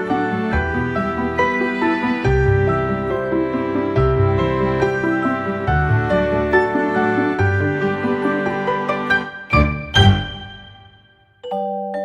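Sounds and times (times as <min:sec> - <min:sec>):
slow gentle melody: 0:00.0 - 0:12.0.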